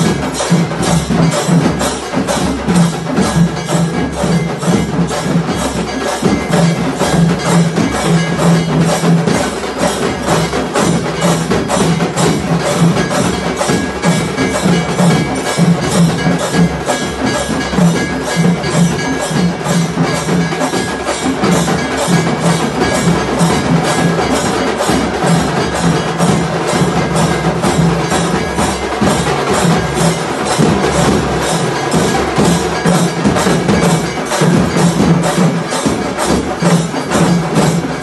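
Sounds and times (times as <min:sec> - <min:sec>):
drum ensemble beaten with sticks: 0:00.0 - 0:38.0.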